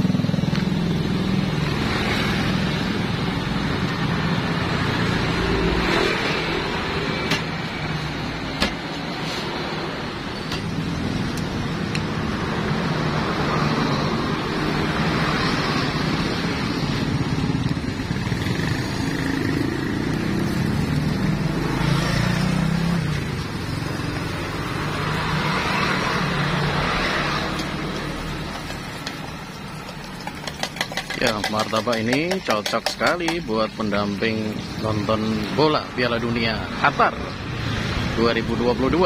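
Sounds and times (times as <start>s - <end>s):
motor vehicles passing: 0.0s - 39.0s.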